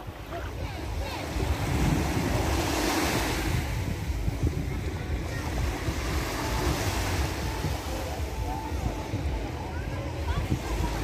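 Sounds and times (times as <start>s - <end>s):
small waves breaking on shore: 0.0s - 11.0s
wind on microphone: 0.0s - 11.0s.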